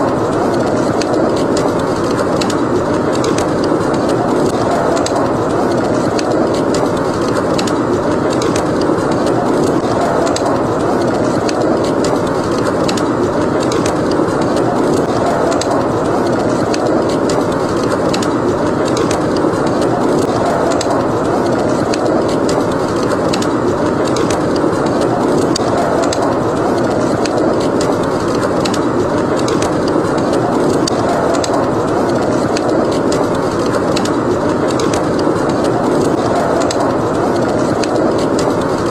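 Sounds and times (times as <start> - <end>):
blizzard wind rushing: 0.0 - 38.9
wood fire crackling and popping: 0.0 - 38.9.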